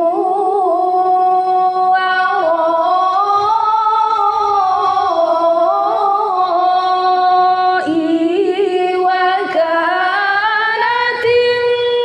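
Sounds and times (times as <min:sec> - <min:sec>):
high voice chanting recitation: 0:00.0 - 0:12.0.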